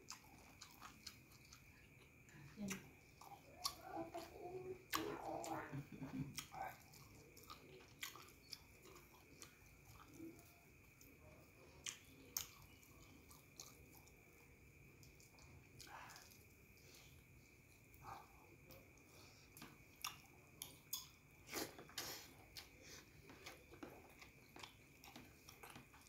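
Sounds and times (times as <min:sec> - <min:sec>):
person chewing with lip smacks: 0:00.0 - 0:14.2, 0:17.7 - 0:26.0.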